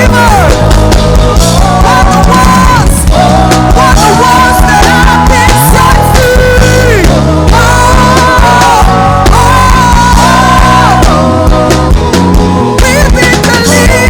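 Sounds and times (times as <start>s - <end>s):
drum hits: 0.0s - 13.6s
worship band playing: 0.0s - 14.0s.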